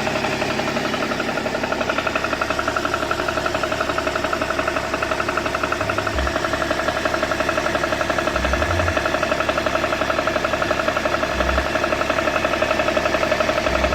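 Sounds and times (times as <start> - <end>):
diesel engine pulsing: 0.0 - 13.9.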